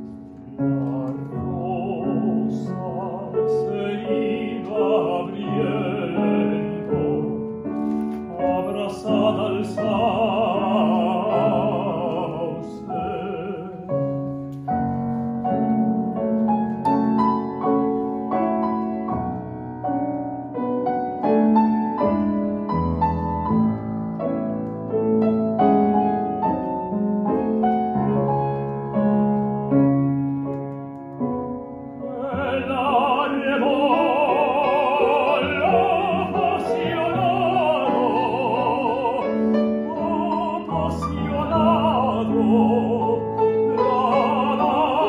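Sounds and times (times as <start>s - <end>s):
grand piano: 0.0s - 45.0s.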